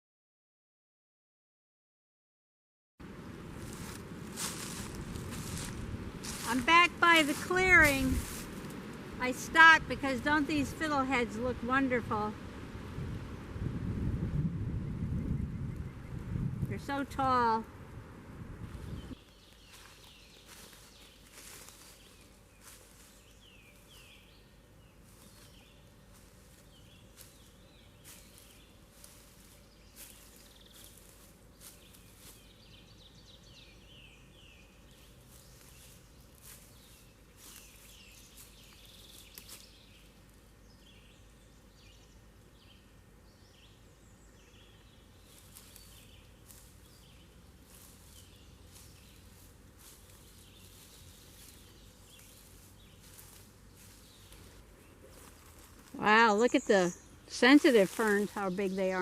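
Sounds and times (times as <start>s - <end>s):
birds chirping: 3.2s - 12.3s, 18.7s - 59.0s.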